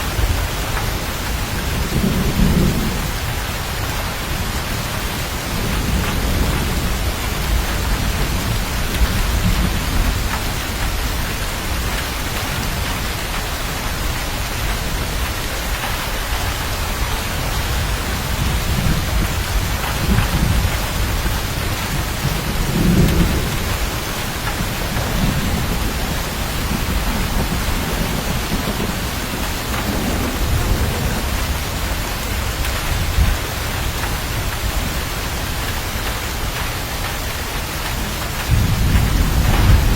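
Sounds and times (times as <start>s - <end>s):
heavy rain: 0.0s - 39.9s
thunder rumbling: 0.0s - 39.9s.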